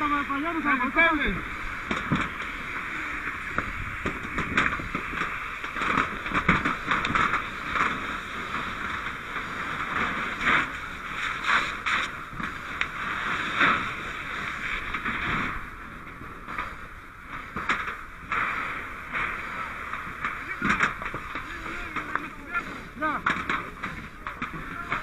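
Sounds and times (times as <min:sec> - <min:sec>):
cracks and knocks: 0:01.7 - 0:14.0, 0:14.7 - 0:25.0.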